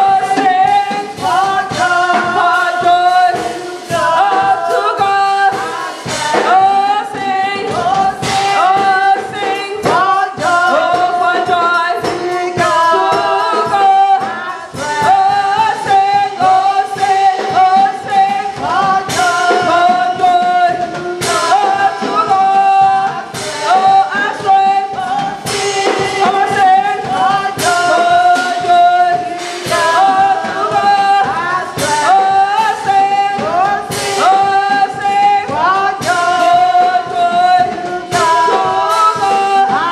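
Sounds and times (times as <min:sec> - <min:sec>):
choir singing: 0:00.0 - 0:39.9
instrumental accompaniment: 0:00.0 - 0:39.9
percussive beat: 0:00.0 - 0:39.9.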